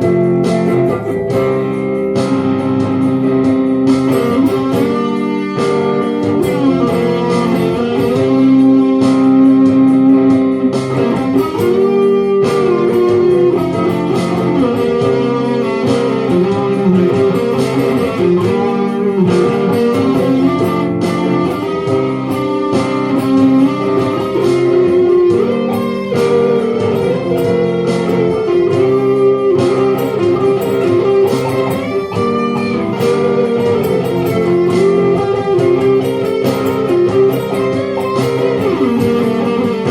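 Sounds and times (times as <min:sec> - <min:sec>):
layered looped guitar: 0:00.0 - 0:39.9.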